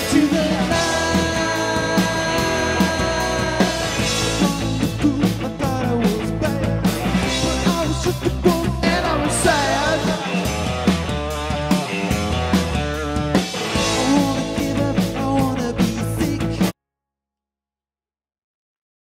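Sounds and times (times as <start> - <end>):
rock music with singing: 0.0 - 16.8.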